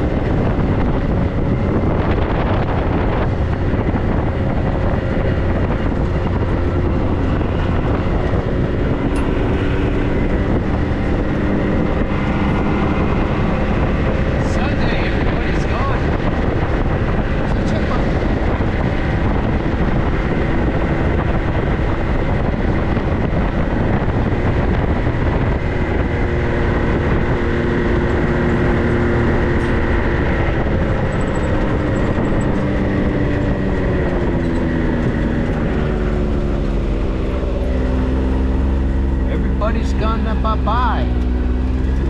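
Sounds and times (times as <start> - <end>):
car engine running: 0.0 - 42.0
road and wind noise: 0.0 - 42.0.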